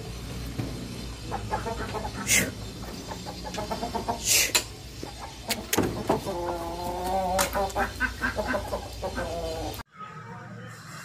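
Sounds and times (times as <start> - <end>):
chickens clucking: 0.0 - 9.8.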